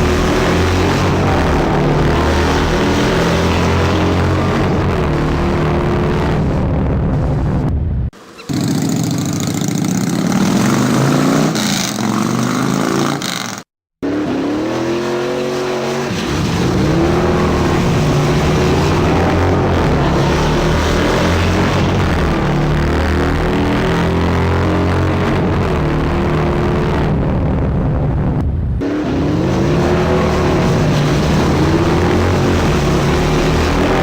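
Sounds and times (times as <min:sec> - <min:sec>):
vehicle engine revving: 0:00.0 - 0:07.6, 0:08.2 - 0:34.0.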